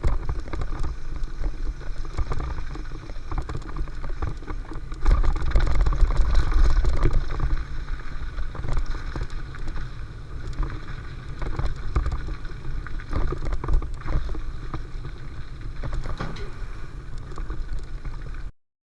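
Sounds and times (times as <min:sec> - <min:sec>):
bike chain and frame rattling: 0:00.0 - 0:18.5
wind rumble on microphone: 0:00.0 - 0:18.5.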